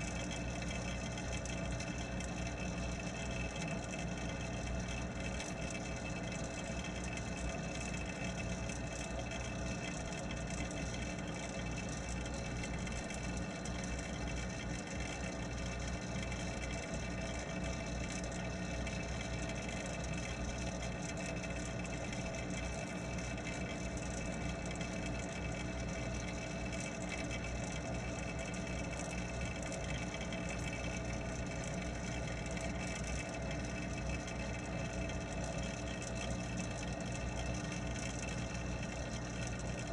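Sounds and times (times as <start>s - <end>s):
underwater pump hum: 0.0s - 39.9s.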